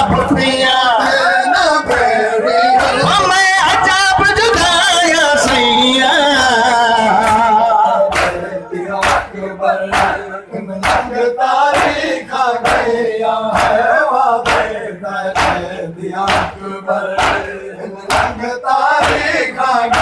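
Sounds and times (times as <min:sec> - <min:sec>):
men beating their chests: 0:00.0 - 0:20.0
men chanting a lament: 0:00.0 - 0:20.0.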